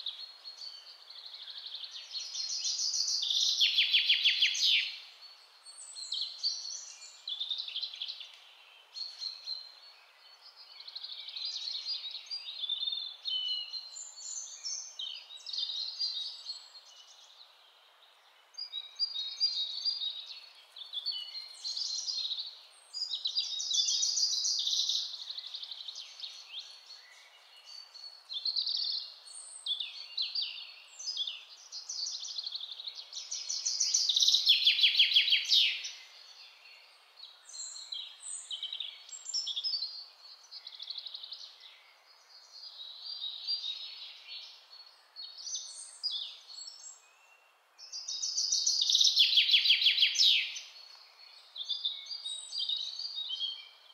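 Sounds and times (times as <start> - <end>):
birdsong chirping and trilling: 0.0 - 53.9
faint steady hiss: 0.0 - 53.9.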